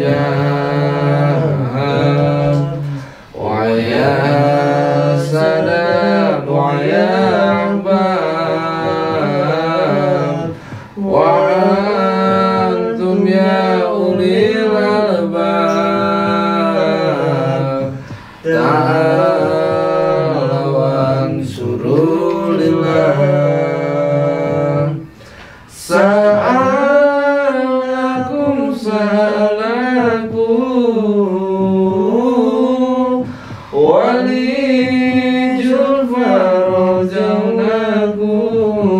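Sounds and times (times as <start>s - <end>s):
person chanting devotional recitation: 0.0s - 38.9s.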